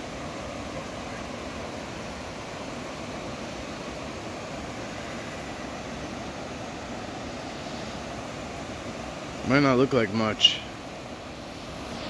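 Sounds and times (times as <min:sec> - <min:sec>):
fast stream rushing: 0:00.0 - 0:12.0.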